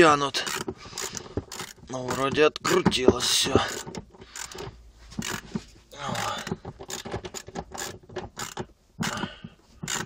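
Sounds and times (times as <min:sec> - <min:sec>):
ratchet pawl clicks: 0:00.4 - 0:05.4, 0:06.2 - 0:10.0.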